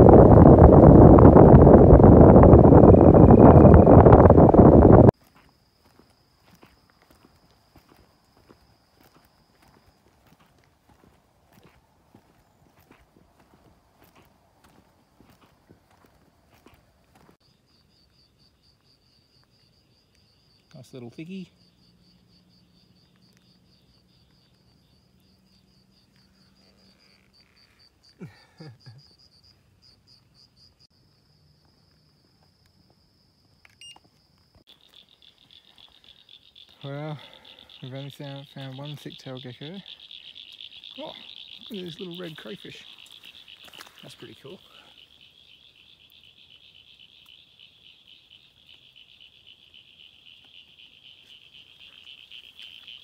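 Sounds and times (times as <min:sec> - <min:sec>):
crickets chirping: 0:00.0 - 0:53.0
frogs trilling: 0:05.9 - 0:30.8, 0:34.7 - 0:53.0.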